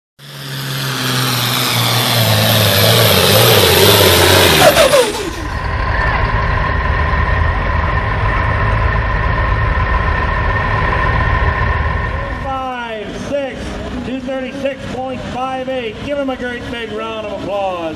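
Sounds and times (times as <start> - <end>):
high engine whine: 0.2 - 17.9
tractor diesel engine at full throttle: 0.2 - 17.9.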